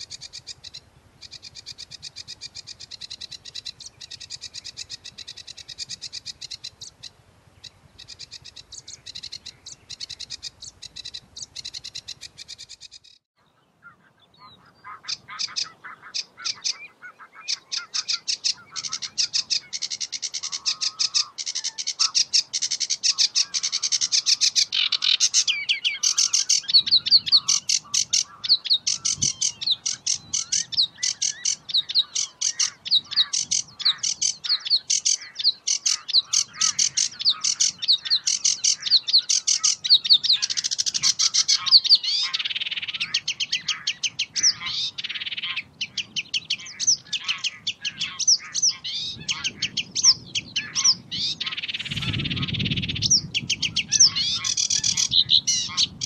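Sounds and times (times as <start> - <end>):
warbler singing chattering trills: 0.0 - 56.0.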